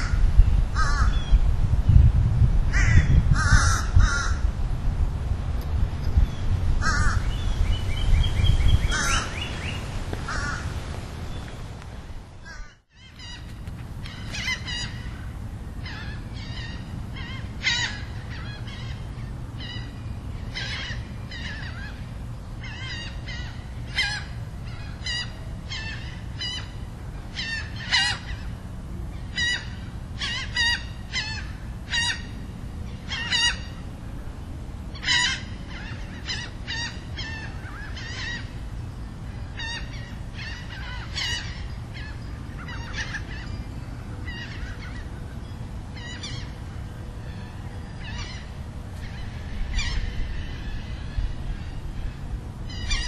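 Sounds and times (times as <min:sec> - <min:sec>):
birds giving harsh calls: 0:00.0 - 0:01.4, 0:02.7 - 0:04.5, 0:06.2 - 0:11.7, 0:12.4 - 0:33.9, 0:34.9 - 0:53.0.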